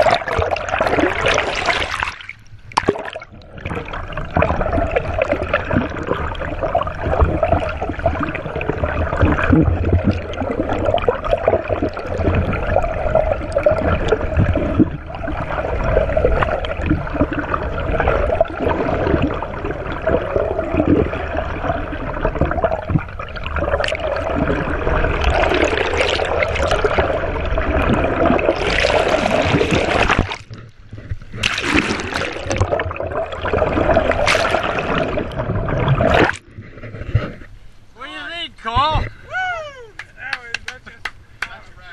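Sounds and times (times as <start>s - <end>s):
water splashing against boat: 0.0s - 37.9s.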